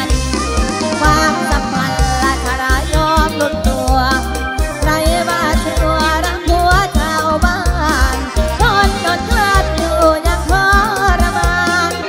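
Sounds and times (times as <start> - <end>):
woman singing ornamented melody: 0.9 - 12.0.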